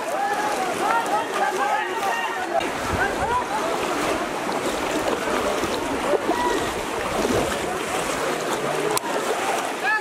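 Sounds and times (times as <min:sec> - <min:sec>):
crowd calling and chattering: 0:00.0 - 0:10.0
water sloshing and splashing: 0:00.0 - 0:10.0.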